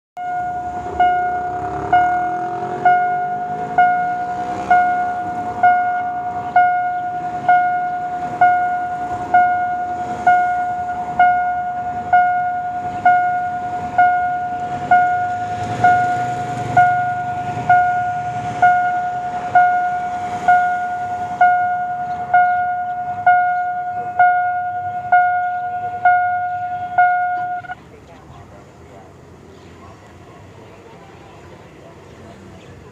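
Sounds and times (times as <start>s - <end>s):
level crossing bell ringing: 0.2s - 27.8s.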